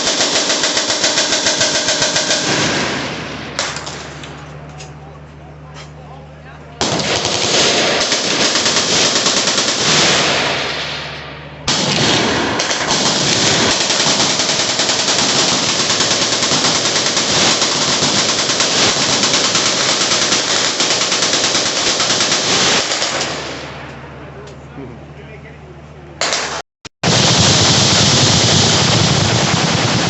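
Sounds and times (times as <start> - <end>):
machine-gun fire: 0.0 - 4.5, 6.8 - 23.9, 26.2 - 30.0.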